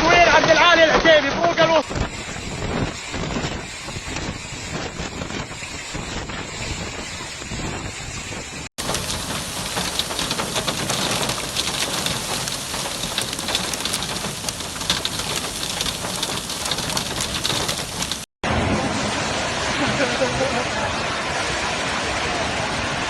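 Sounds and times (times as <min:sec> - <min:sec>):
wind noise: 0:00.0 - 0:18.6
heavy rain pelting hard surfaces: 0:00.0 - 0:23.0.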